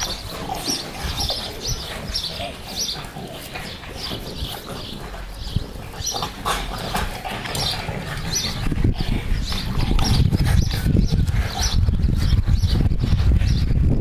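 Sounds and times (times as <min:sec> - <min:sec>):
puppies making short vocal noises: 0:00.0 - 0:12.4
low rumbling noise: 0:00.0 - 0:14.0.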